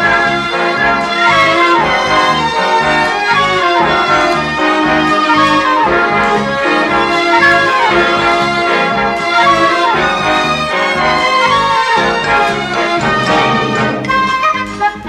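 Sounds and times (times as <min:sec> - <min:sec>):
song with gliding melody: 0:00.0 - 0:15.0.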